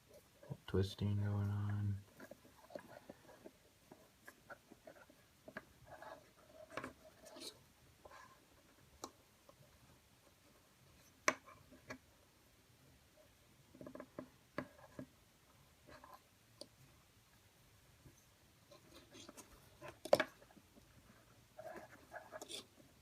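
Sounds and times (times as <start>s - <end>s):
cord rustling and rubbing: 0.0s - 12.2s, 13.1s - 17.1s, 17.8s - 23.0s.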